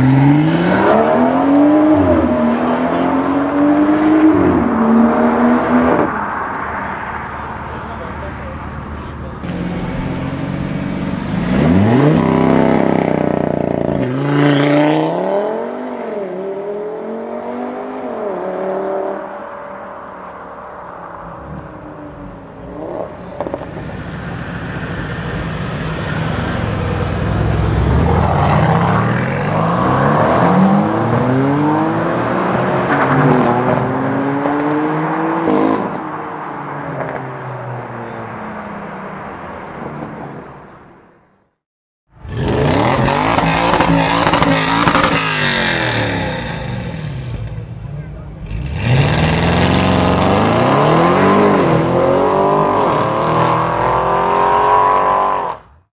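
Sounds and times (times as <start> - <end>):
sports car accelerating: 0.0 - 40.5, 42.2 - 55.9.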